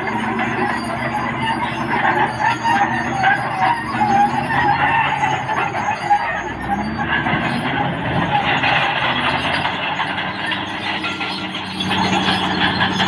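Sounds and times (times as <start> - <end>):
bulldozer diesel engine running: 0.0 - 13.0
steel tracks clattering: 0.0 - 13.0.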